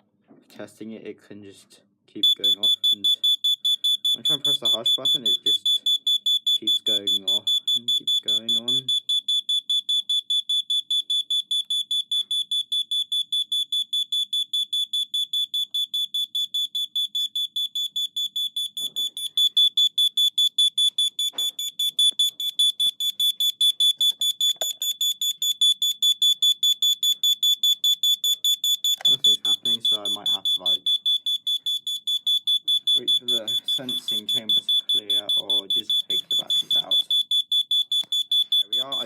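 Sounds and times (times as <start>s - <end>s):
alarm rapid high-pitched beeps: 2.2s - 39.0s.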